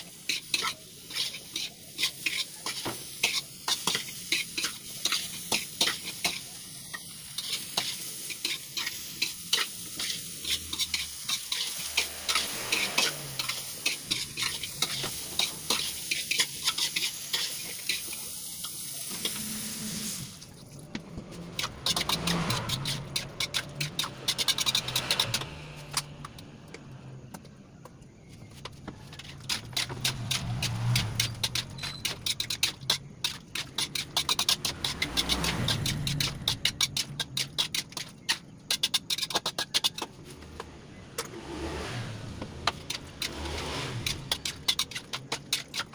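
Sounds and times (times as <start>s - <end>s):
metal spatula scraping a wok: 0.0s - 20.4s, 21.3s - 26.2s, 29.0s - 40.6s, 41.2s - 45.9s
food sizzling in oil: 0.0s - 25.7s, 29.0s - 40.1s.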